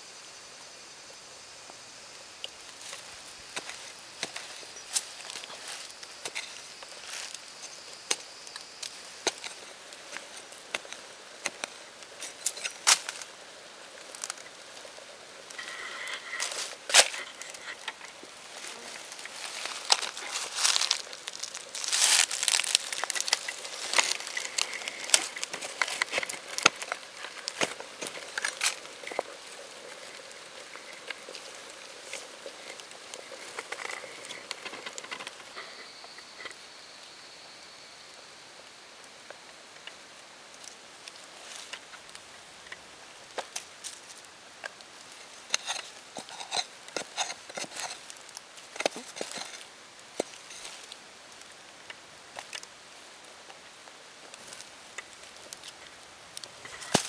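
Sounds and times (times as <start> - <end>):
digging in dry soil: 2.1 - 36.6, 40.5 - 57.0
dry leaves rustling: 2.6 - 36.4, 40.6 - 57.0.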